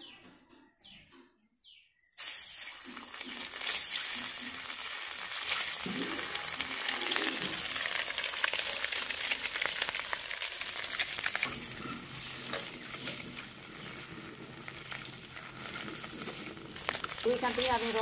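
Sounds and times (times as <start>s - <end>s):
oil sizzling with pops: 2.1s - 18.0s.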